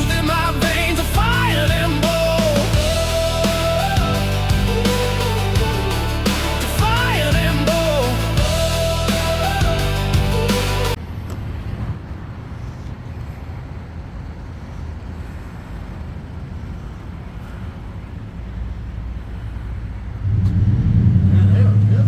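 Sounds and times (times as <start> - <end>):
low rumble of passing traffic: 0.0 - 22.0.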